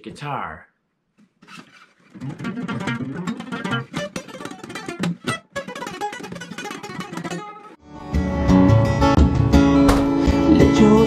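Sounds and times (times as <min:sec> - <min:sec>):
acoustic guitar: 0:01.4 - 0:11.0.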